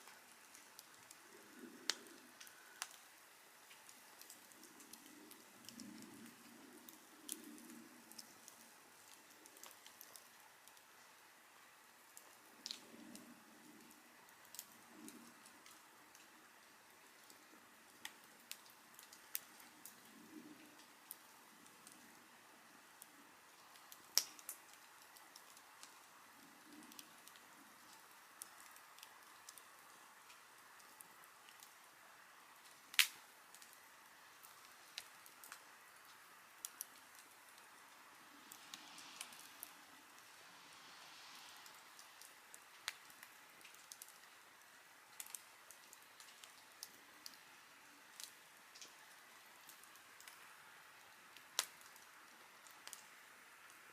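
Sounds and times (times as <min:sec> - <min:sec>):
fire pops and snaps: 0:00.0 - 0:11.0, 0:12.1 - 0:22.2, 0:22.8 - 0:31.9, 0:32.5 - 0:40.4, 0:41.2 - 0:53.9
campfire crackling: 0:00.0 - 0:53.9
soft hiss: 0:00.0 - 0:53.9.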